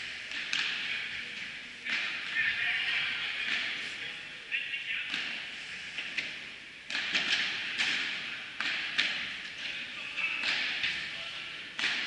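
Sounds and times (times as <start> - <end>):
balls knocking echoing in hall: 0.0 - 4.1, 4.8 - 12.0.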